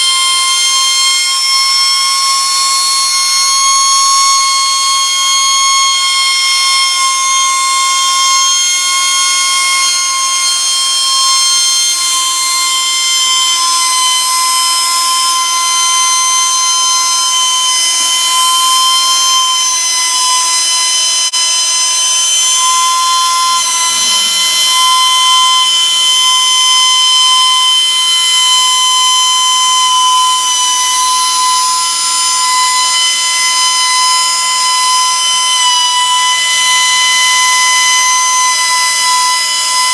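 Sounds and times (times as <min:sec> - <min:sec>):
valve grinder whine: 0:00.0 - 0:39.9.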